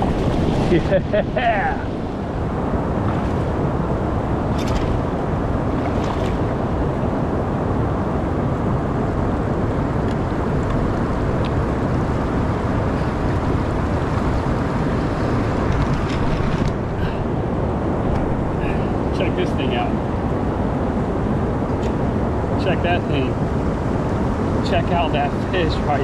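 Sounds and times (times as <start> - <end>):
river water rushing: 0.0 - 22.6
wind buffeting microphone: 0.0 - 26.0.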